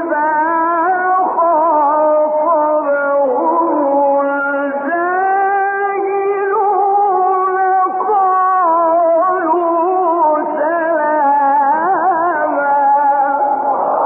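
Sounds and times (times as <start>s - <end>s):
man chanting melodically: 0.0s - 13.6s.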